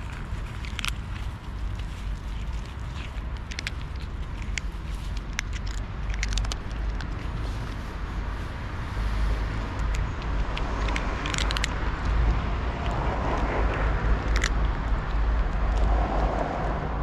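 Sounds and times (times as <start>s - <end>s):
cat crunching dry kibble: 0.0s - 17.0s.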